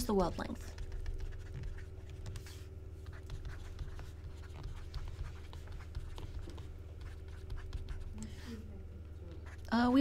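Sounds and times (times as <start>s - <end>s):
stylus scratching on tablet screen: 0.0s - 8.2s
steady low hum: 0.0s - 10.0s.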